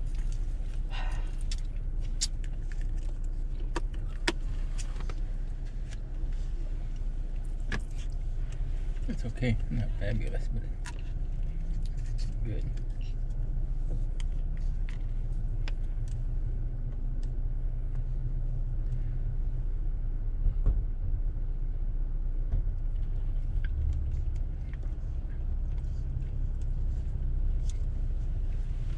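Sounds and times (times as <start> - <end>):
car cabin rumble: 0.0 - 28.9.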